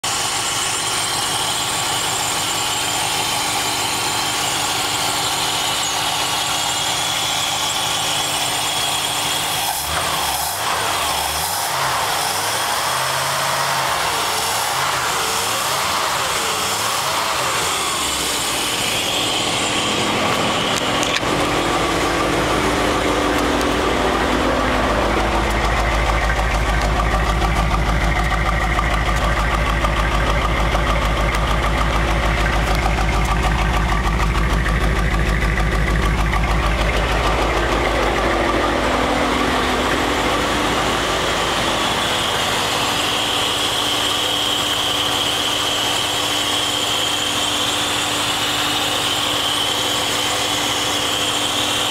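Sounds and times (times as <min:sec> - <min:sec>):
engine idling with deep rumble: 0:00.0 - 0:51.9
engine mechanical whine: 0:00.0 - 0:51.9.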